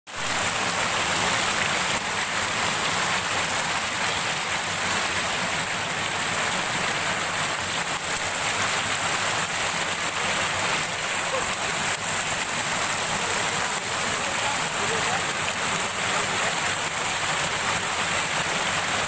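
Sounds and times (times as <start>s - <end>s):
waterfall splashing into pool: 0.1s - 19.0s.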